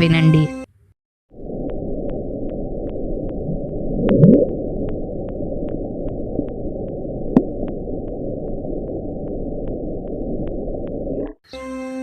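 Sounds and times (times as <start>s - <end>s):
deep ocean rumble: 1.3s - 11.4s
faint regular ticks: 1.6s - 11.3s.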